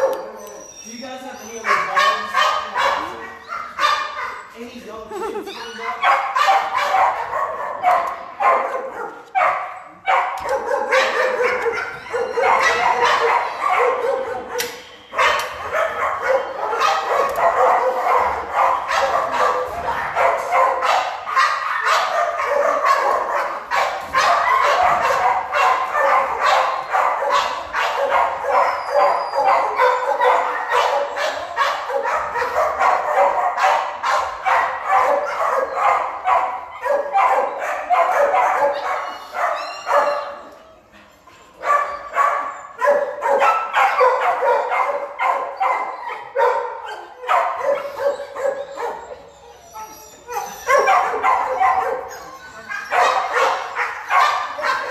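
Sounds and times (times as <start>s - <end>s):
many dogs barking: 0.0s - 4.6s, 5.6s - 54.9s.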